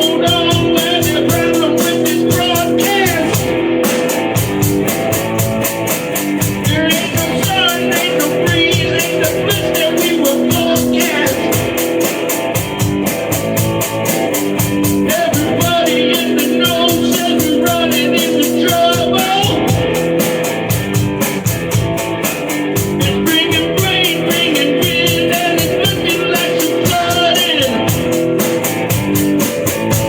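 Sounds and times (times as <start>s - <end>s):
instrumental rock music: 0.0s - 30.0s.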